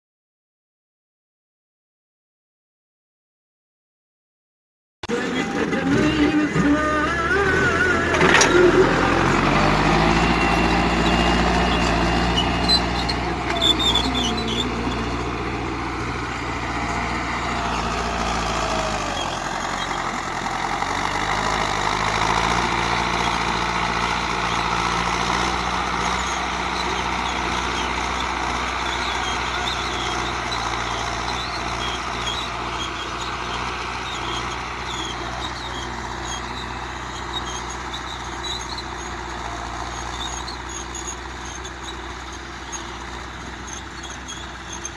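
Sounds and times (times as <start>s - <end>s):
tractor diesel engine under load: 5.0s - 44.9s.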